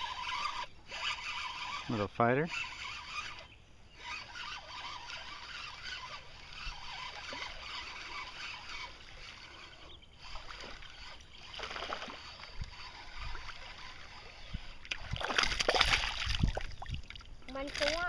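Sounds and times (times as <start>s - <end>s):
water lapping around kayak: 0.0s - 18.0s
fish splashing: 2.7s - 18.0s.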